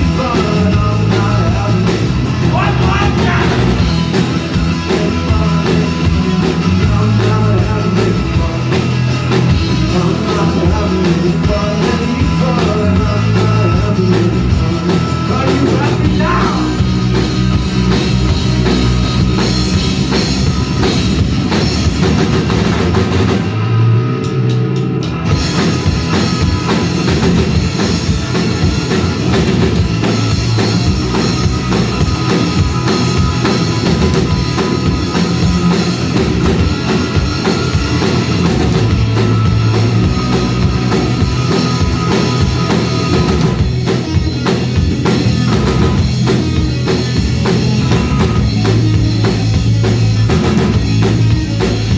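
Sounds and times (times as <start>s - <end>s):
drum kit beat: 0.0s - 51.9s
electric guitar: 0.0s - 51.9s.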